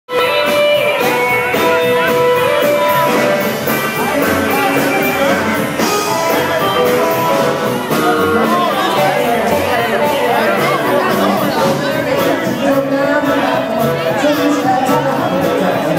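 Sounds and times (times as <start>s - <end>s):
bass guitar: 0.1s - 15.9s
drum beat with cymbals: 0.1s - 15.9s
electric guitar with bent notes: 0.1s - 15.9s.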